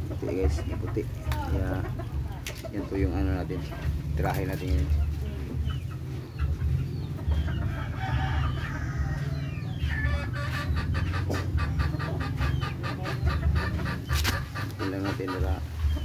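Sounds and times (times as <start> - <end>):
chicken clucking: 0.0 - 16.0
low steady rumble: 0.0 - 16.0.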